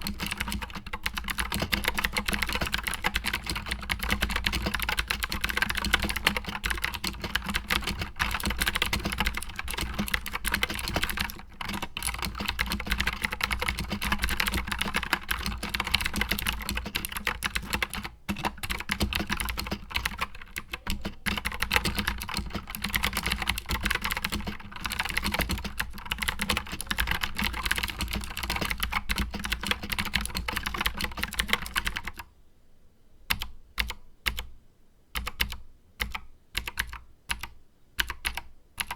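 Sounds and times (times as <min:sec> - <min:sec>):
clicky mechanical keyboard typing: 0:00.0 - 0:32.3, 0:33.3 - 0:34.5, 0:35.2 - 0:38.9.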